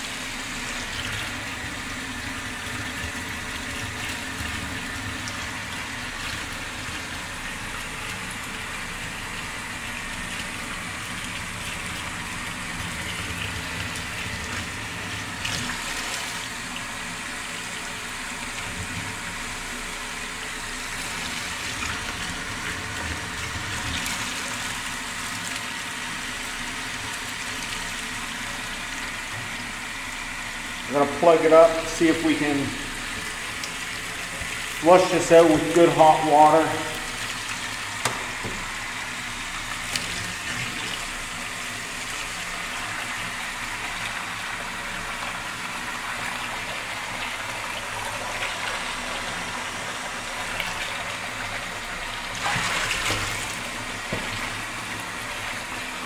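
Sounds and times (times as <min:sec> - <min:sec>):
tap water pouring into sink: 0:00.1 - 0:20.0, 0:20.6 - 0:56.0.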